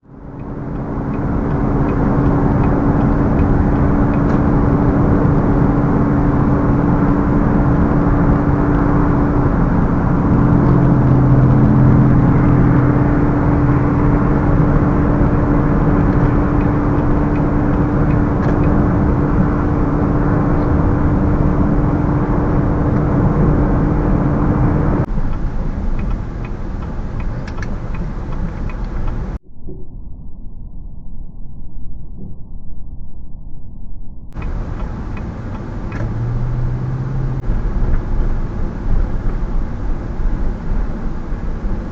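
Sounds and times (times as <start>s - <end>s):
car road and engine noise: 0.0s - 29.4s, 34.3s - 41.9s
constant hum: 0.0s - 41.9s.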